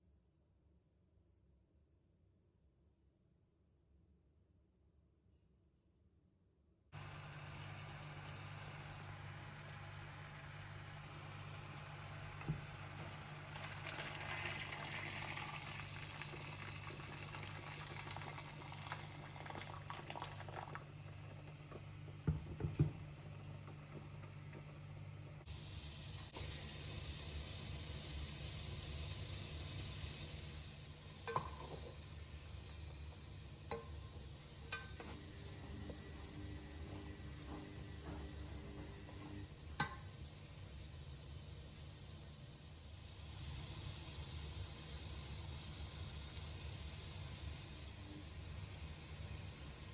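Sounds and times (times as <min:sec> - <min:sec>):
sizzling in a pan: 0:07.0 - 0:23.6, 0:24.9 - 0:49.9.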